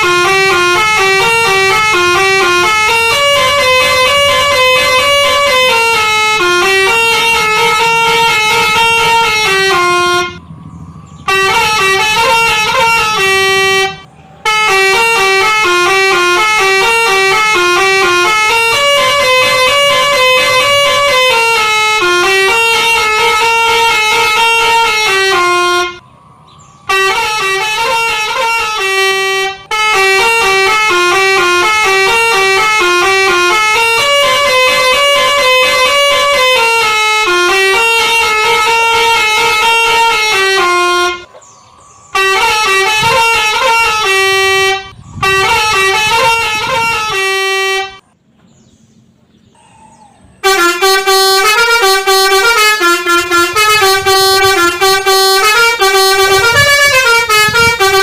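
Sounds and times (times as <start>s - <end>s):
musical horn tune: 0.0s - 10.4s, 11.2s - 26.0s, 26.9s - 41.3s, 42.1s - 48.1s, 50.4s - 58.0s.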